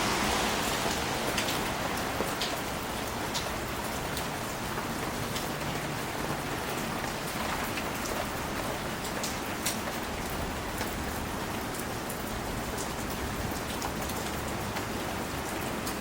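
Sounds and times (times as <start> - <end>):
rain falling on leaves: 0.0 - 16.0
raindrops ticking: 0.2 - 16.0.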